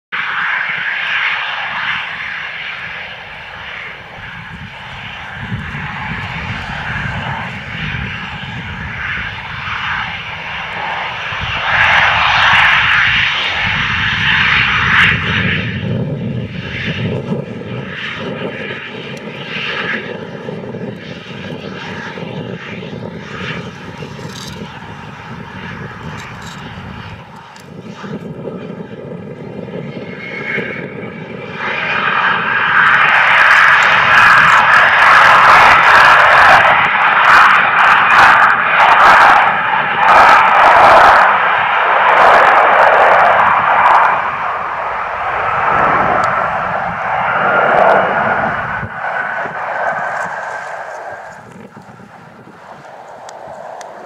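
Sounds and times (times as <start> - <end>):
jet engines whining at taxi power: 0.1 - 54.0.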